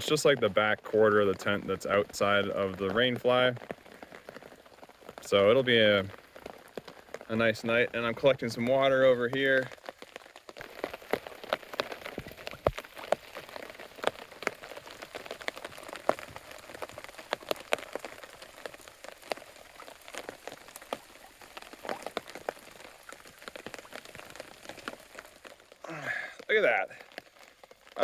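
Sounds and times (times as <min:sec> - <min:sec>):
rain falling on a tarp: 0:00.0 - 0:28.0.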